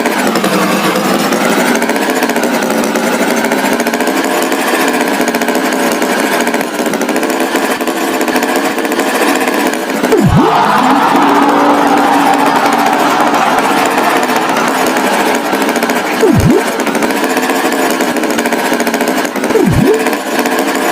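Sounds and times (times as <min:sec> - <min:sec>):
rattling engine running: 0:00.0 - 0:20.9.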